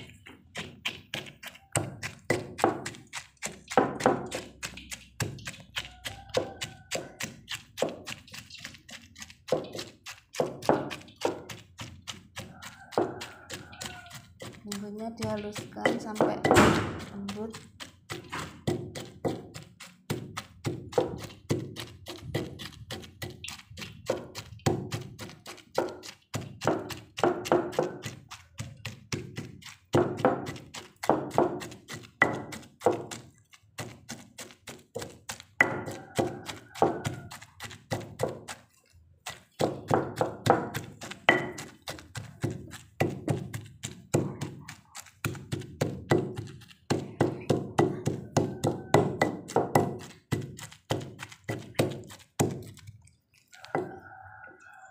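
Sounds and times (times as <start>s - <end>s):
pestle pounding in stone mortar: 0.0s - 54.1s.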